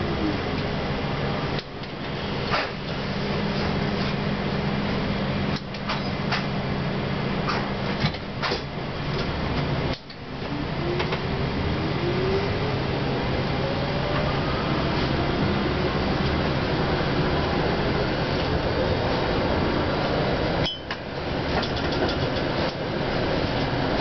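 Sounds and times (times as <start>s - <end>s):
streetcar rumble and hum: 0.0s - 24.0s.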